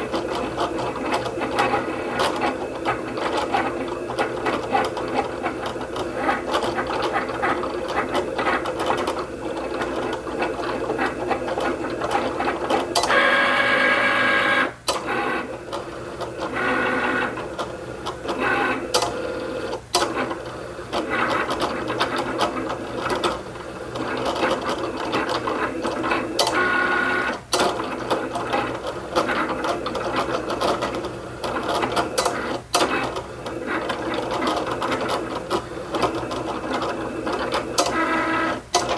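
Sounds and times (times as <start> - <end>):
cutting machine motors whirring: 0.0 - 38.9.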